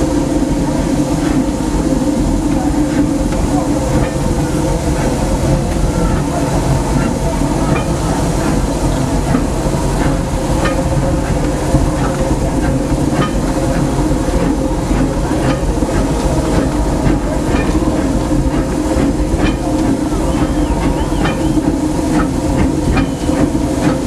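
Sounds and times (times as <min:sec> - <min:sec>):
steam locomotive rumble and clatter: 0:00.0 - 0:24.0.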